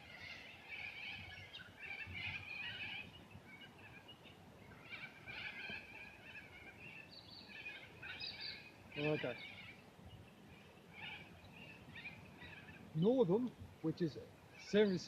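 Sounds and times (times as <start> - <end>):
birds calling and chattering: 0.0 - 15.0
faint outdoor background noise: 0.0 - 15.0.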